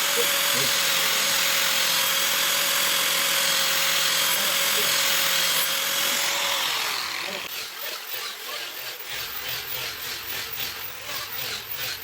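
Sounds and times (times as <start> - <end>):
electric power tool whining: 0.0 - 12.0.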